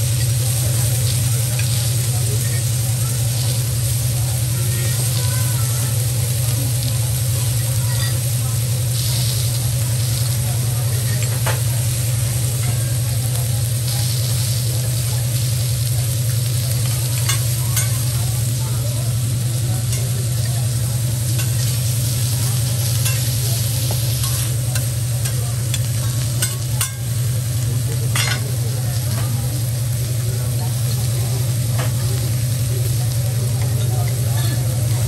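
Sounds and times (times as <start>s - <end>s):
food sizzling on a griddle: 0.0s - 35.0s.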